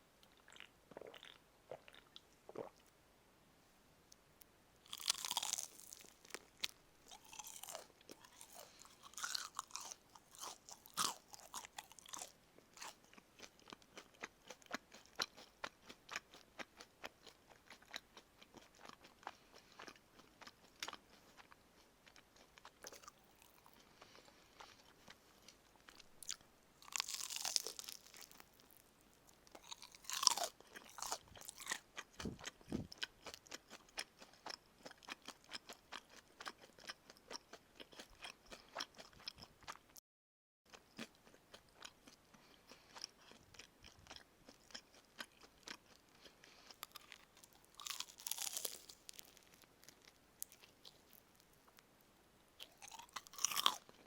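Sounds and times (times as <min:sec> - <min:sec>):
chewing crispy fried chicken: 0:00.2 - 0:02.8, 0:04.8 - 0:40.0, 0:40.7 - 0:51.9, 0:52.6 - 0:54.0.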